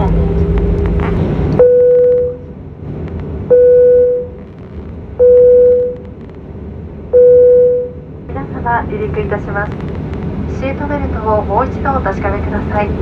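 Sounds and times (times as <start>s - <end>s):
cabin hum: 0.0s - 13.0s.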